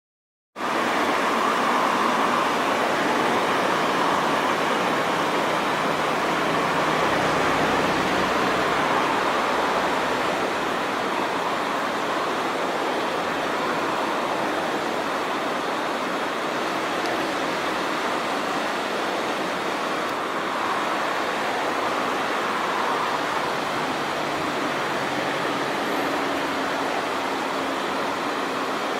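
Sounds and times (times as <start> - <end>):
river water rushing: 0.6 - 28.9.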